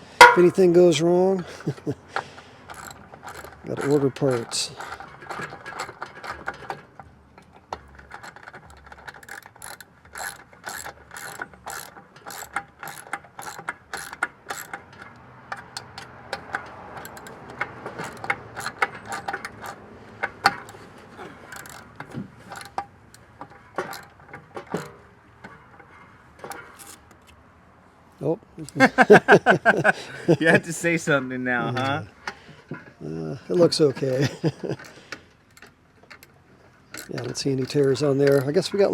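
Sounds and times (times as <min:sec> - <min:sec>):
hand tools clicking on metal parts: 0:00.0 - 0:27.4, 0:28.6 - 0:31.0, 0:31.6 - 0:38.9.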